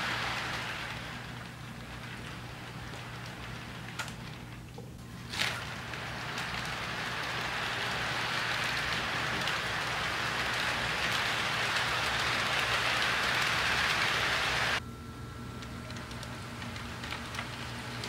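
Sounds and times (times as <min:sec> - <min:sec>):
toy train wheels rattling on rail: 0:00.0 - 0:14.8.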